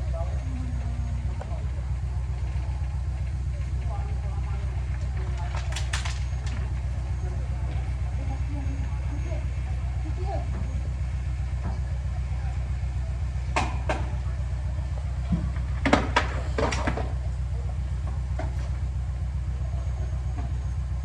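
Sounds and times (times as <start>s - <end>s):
heavy machine engine idling: 0.0s - 21.0s.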